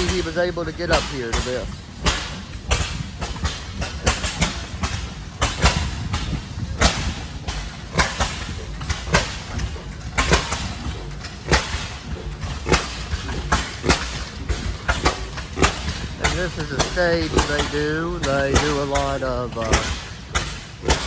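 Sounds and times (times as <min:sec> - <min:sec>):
sharp exhaust pops: 0:00.0 - 0:21.0
stationary gas engines running: 0:00.0 - 0:21.0.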